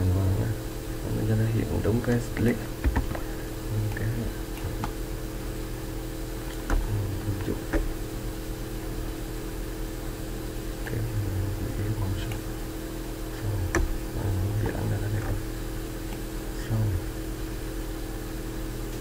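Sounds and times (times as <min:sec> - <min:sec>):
computer humming: 0:00.0 - 0:19.0.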